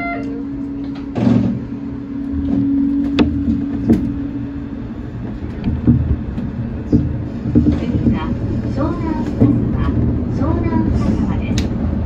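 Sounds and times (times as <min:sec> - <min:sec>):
monorail car hum and rumble: 0:00.0 - 0:12.0.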